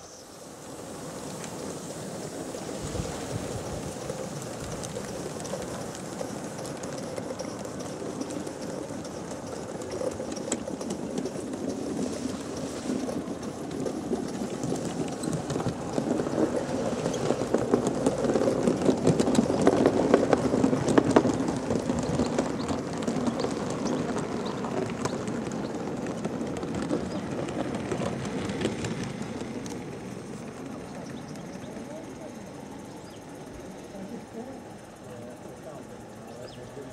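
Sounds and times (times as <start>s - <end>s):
model train wheels clattering: 1.1s - 36.9s.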